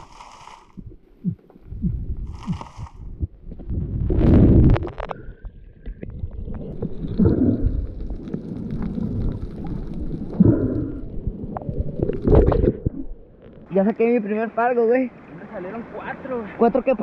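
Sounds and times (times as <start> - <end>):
underwater sea rumble: 0.0 - 13.7
underwater bubbling: 0.0 - 13.8.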